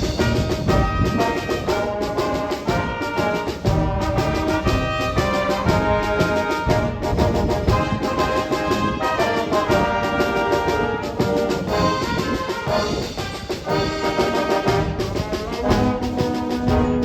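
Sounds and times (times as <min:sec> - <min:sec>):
brass-led orchestral music: 0:00.0 - 0:17.0.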